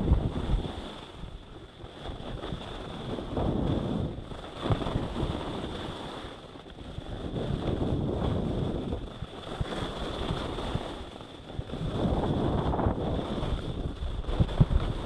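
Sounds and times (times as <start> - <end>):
skis scraping on snow: 0.0 - 15.0
wind on microphone: 0.0 - 15.0.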